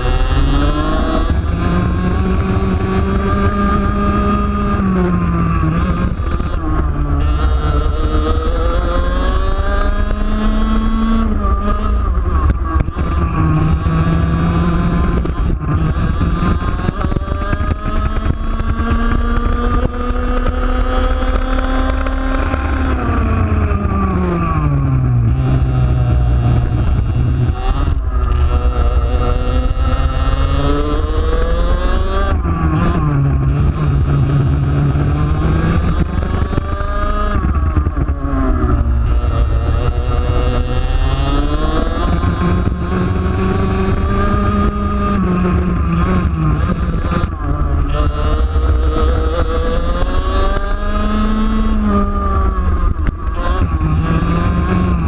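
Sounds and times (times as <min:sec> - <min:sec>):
kart engine revving: 0:00.0 - 0:55.0
wind rumble on microphone: 0:00.0 - 0:55.0.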